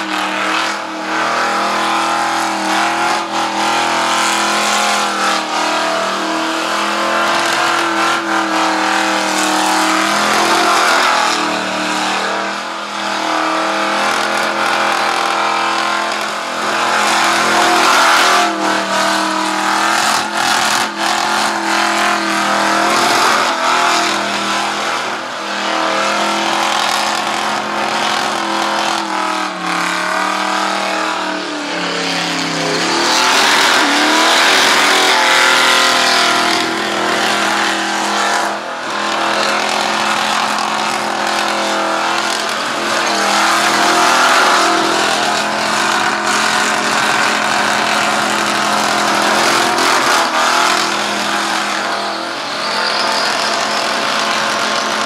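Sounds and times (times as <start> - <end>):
engine at high revs: 0.0 - 55.0
tyres spinning and screeching: 0.0 - 55.0.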